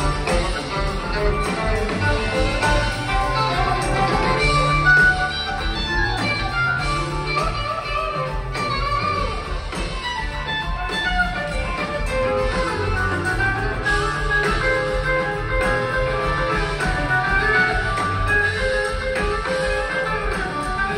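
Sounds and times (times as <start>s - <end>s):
electric guitar: 0.0s - 20.9s
live rock band playing: 0.0s - 20.9s.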